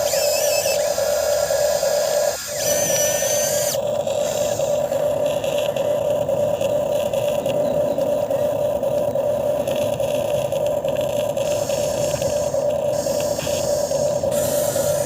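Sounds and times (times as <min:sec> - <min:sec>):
model excavator motor whine: 0:00.0 - 0:15.0.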